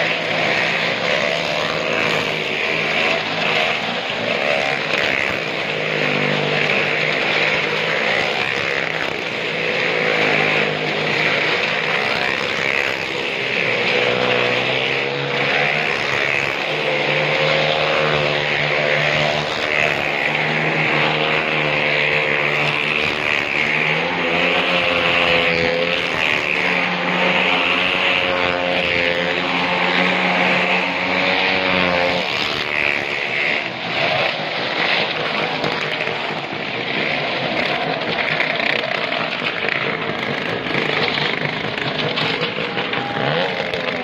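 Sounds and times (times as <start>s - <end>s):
car engine running hard: 0.0s - 44.0s
motorcycle engines running hard: 0.0s - 44.0s.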